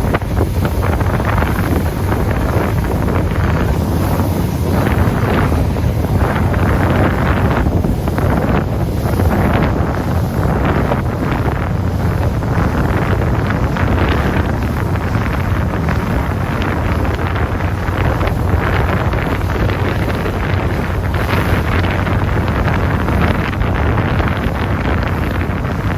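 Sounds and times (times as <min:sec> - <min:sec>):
low rumble of boat and water: 0:00.0 - 0:25.9
wind buffeting microphone: 0:00.0 - 0:25.9.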